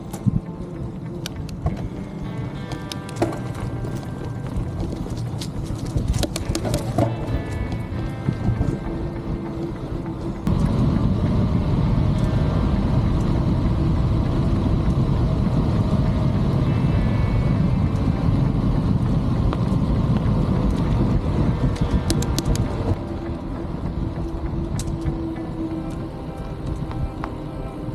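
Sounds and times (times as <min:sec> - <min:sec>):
bicycle tyre noise: 0:00.0 - 0:27.9
wind buffeting microphone: 0:00.0 - 0:27.9.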